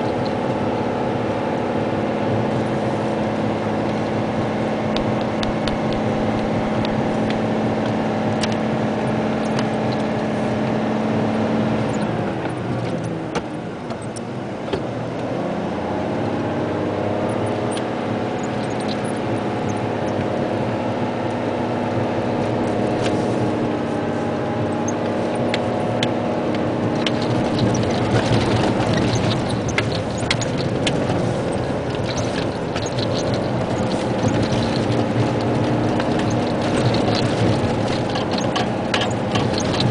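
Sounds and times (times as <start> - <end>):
diesel truck engine from inside cab: 0.0 - 39.9
gravel rattling against truck: 0.0 - 39.9.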